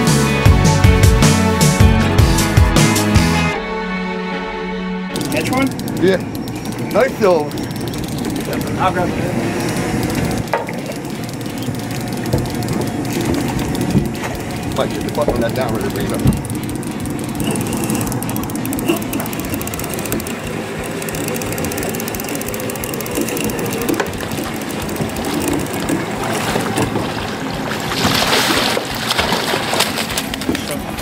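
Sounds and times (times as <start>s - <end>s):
boat motor running: 0.0s - 31.0s
fish splashing in water: 6.0s - 31.0s.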